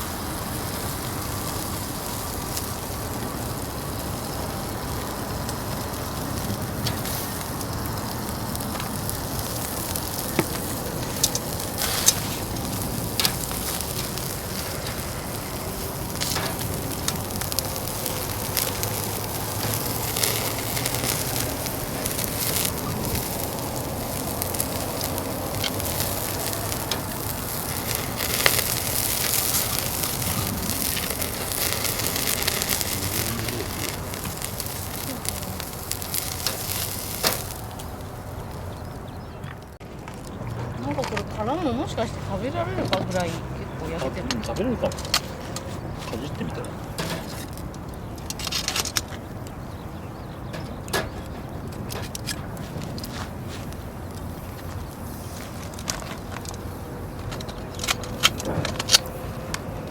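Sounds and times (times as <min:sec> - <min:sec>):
food sizzling on grate: 0:00.0 - 0:39.8, 0:40.9 - 0:59.9
sharp pops from fire: 0:00.0 - 0:40.3, 0:44.2 - 0:59.9
fire crackling: 0:00.0 - 0:59.9.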